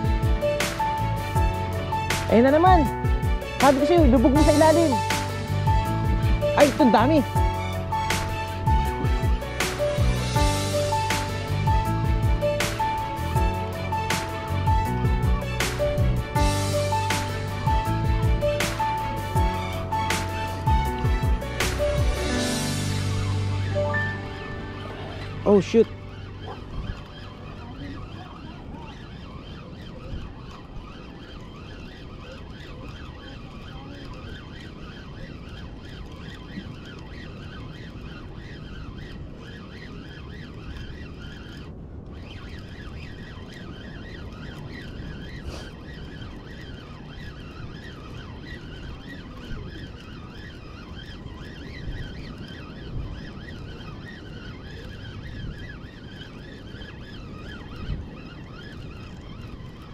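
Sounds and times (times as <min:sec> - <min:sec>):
fishing reel whirring: 0:00.0 - 0:59.9.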